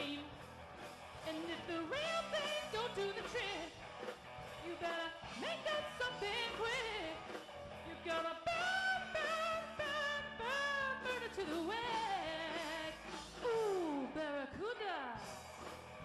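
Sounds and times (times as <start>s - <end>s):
electric bass: 0.0s - 16.0s
live rock band playing: 0.0s - 16.0s.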